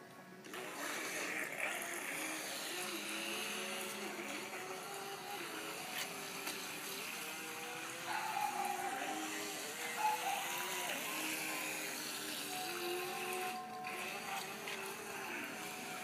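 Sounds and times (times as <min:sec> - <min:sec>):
toy boat electric motor whining: 0:00.0 - 0:16.0.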